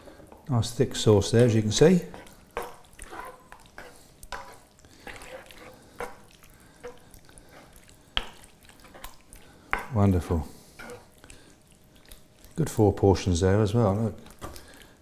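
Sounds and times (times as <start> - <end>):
spatula stirring thick sauce: 0.0 - 15.0.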